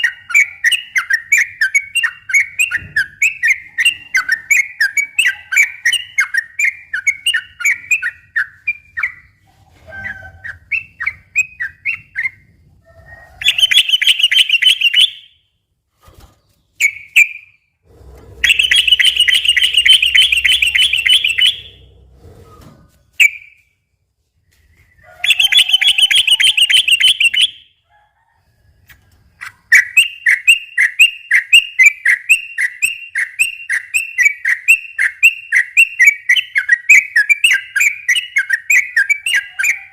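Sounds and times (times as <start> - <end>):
bird singing whistled notes and trills: 0.0 - 9.4, 10.0 - 12.5, 13.2 - 15.5, 16.4 - 17.7, 18.4 - 21.9, 24.5 - 27.8, 29.5 - 39.9.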